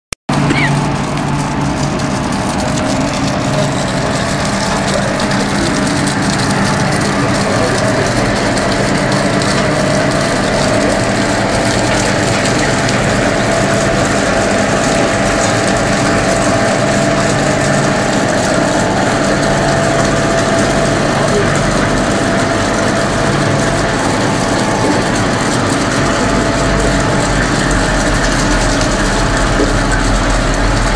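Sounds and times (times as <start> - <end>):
ice machine humming: 0.3 - 30.9.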